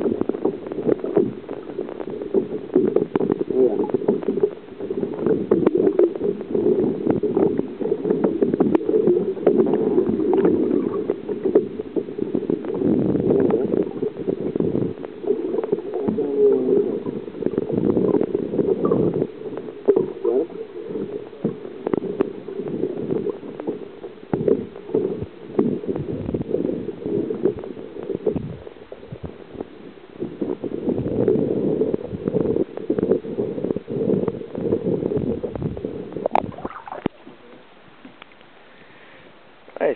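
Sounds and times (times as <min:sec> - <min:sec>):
muffled underwater water sloshing: 0:00.0 - 0:39.4.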